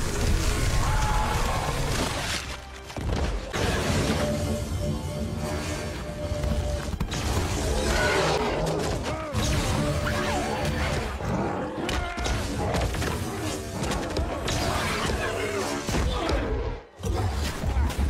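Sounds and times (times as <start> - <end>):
dramatic film score: 0.0 - 18.0.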